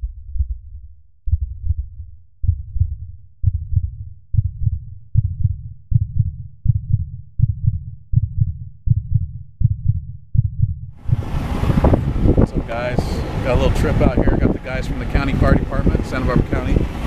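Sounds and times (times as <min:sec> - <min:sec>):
deep heartbeat-like thumps: 0:00.0 - 0:17.0.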